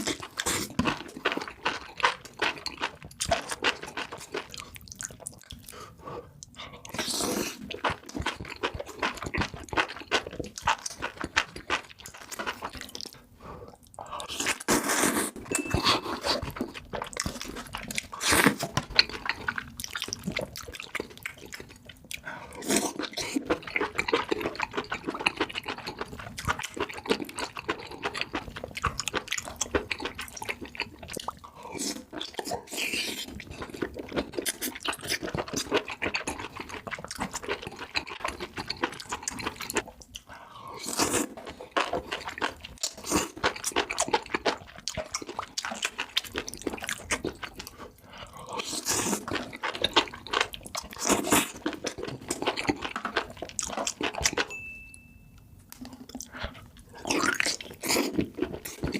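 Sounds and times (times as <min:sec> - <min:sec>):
chewing and crunching food: 0:00.0 - 0:54.7, 0:55.6 - 0:58.9.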